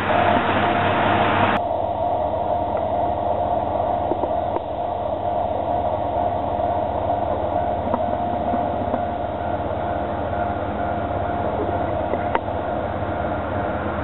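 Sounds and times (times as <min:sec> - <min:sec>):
diesel railcar running: 0:00.0 - 0:14.0.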